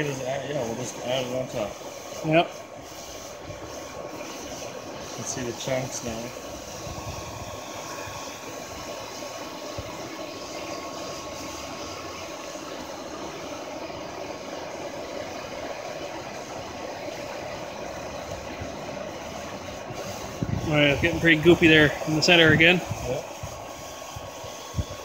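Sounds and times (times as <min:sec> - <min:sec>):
hair dryer blowing air: 0:00.0 - 0:25.0.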